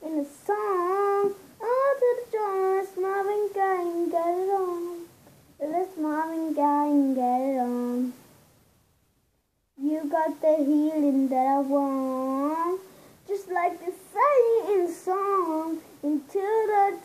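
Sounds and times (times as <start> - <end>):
boy singing unaccompanied: 0.0 - 8.2, 9.8 - 17.0.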